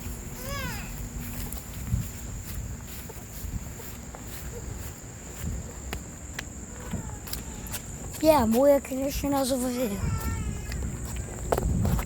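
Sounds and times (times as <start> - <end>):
footsteps on pavement: 0.0 - 12.0.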